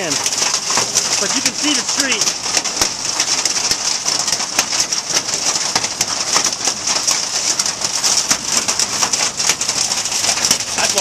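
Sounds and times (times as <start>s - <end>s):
hail and rain falling: 0.0s - 11.0s
hailstones clicking on surfaces: 0.0s - 11.0s.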